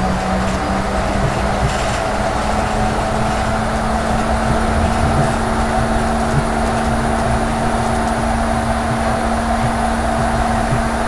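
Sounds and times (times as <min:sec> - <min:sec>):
steady electric hum: 0:00.0 - 0:11.0
train car rumbling: 0:00.0 - 0:11.0.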